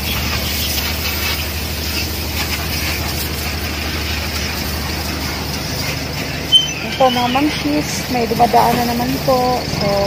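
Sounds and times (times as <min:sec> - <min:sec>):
spraying water hiss: 0:00.0 - 0:10.0.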